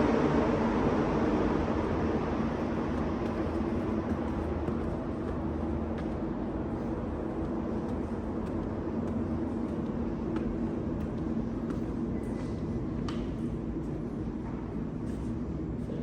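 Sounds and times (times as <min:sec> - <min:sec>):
mechanical hum with low tones: 0:00.0 - 0:16.0.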